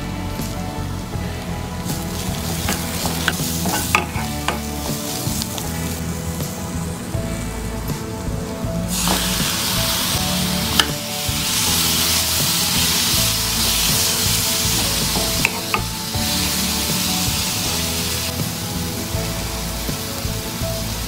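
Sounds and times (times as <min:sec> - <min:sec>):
tomatoes sizzling in hot oil: 0:01.8 - 0:06.8, 0:08.9 - 0:21.0.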